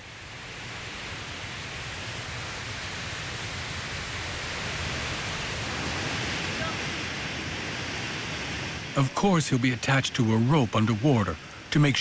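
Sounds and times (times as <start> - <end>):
waterfall rushing: 1.3 - 12.0.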